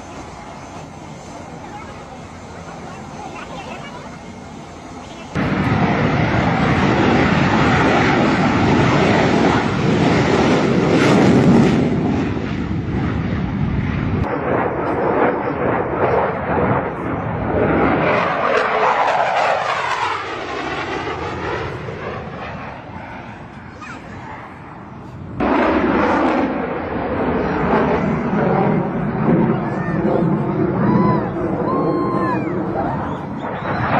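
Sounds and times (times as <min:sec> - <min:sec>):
aircraft roar: 0:00.0 - 0:33.9.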